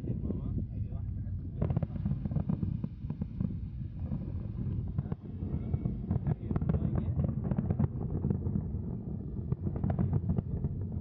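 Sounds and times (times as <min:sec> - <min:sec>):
wind buffeting microphone: 0:00.0 - 0:11.0
distant fireworks bursts and pops: 0:01.6 - 0:11.0.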